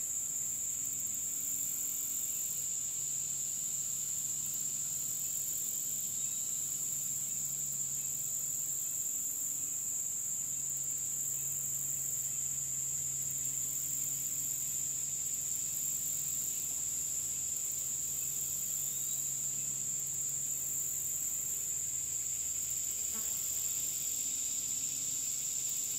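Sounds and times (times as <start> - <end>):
higher insect buzz: 0.0 - 25.9
insects singing shrill chorus: 0.8 - 9.1, 10.4 - 25.9.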